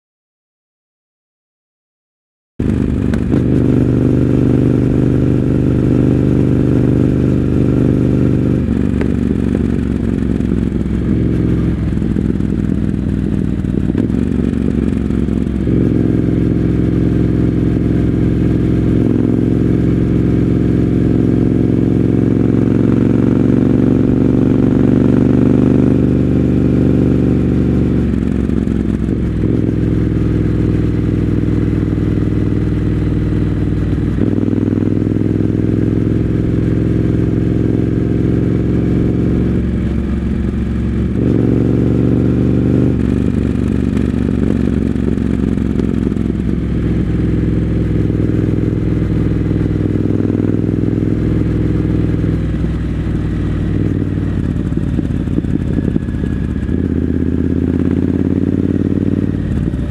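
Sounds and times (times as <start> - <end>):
motorcycle engine running: 2.6 - 59.9.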